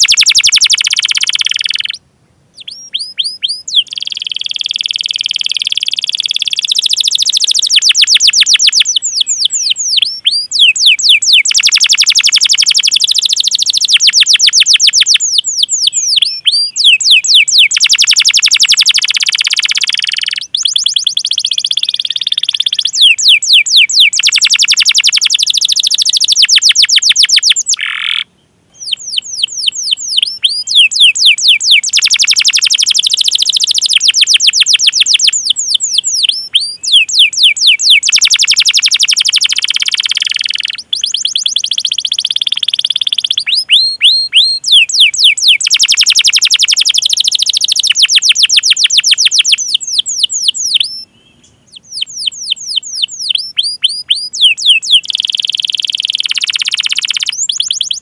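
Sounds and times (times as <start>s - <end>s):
canary singing rapid chirps: 0.0s - 2.0s, 2.6s - 51.1s, 51.7s - 58.0s.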